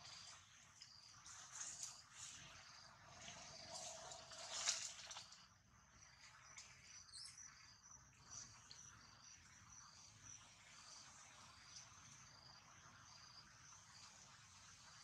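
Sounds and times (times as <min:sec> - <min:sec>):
faint insect chirping: 0:00.0 - 0:15.0.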